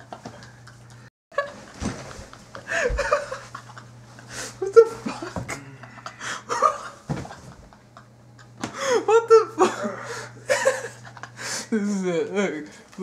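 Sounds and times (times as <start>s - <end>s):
young men laughing: 0.0s - 12.0s
steady low hum: 0.0s - 13.0s.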